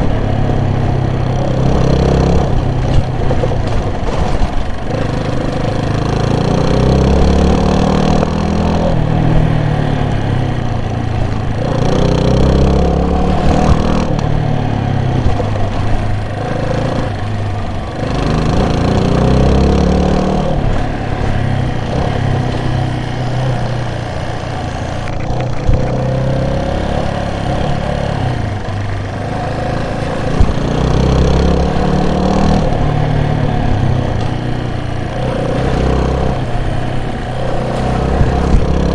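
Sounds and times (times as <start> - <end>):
road and wind noise: 0.0 - 38.9
vehicle engine revving: 0.0 - 38.9.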